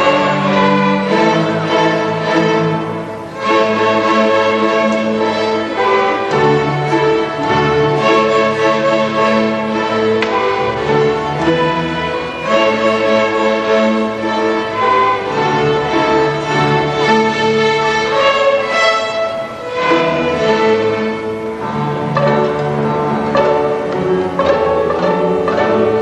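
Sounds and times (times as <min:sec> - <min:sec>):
string orchestra playing: 0:00.0 - 0:26.0.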